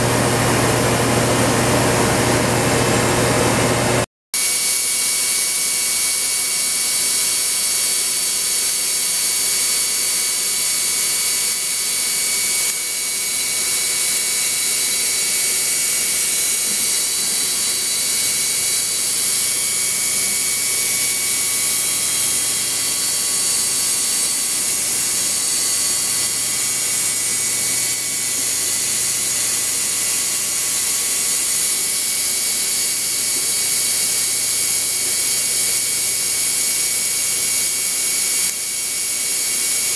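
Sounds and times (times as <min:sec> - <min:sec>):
machine-shop machinery whine: 0:00.0 - 0:39.9.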